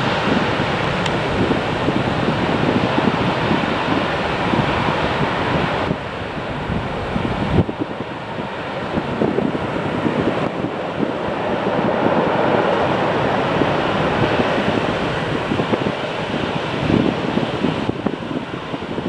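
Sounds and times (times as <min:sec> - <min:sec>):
jet engines rumbling: 0:00.0 - 0:19.0
wind buffeting microphone: 0:00.0 - 0:19.0.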